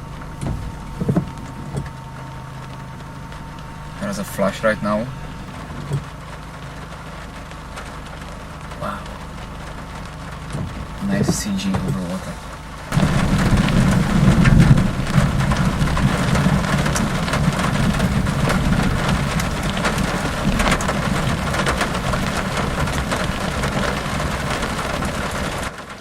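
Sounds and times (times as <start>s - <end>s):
thunder rumbling: 0.0s - 26.0s.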